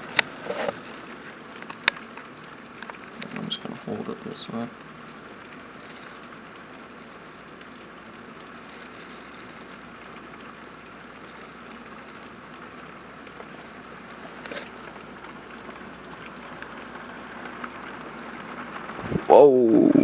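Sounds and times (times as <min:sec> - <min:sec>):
rain pouring: 0:00.0 - 0:20.0.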